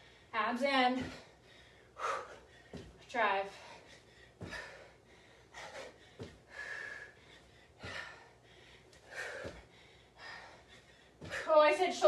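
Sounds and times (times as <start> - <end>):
woman breathing hard: 0.0 - 0.4, 1.0 - 11.6.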